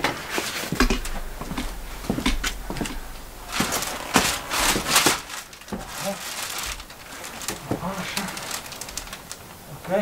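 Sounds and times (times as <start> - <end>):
insulation rustling and scraping: 0.0 - 10.0.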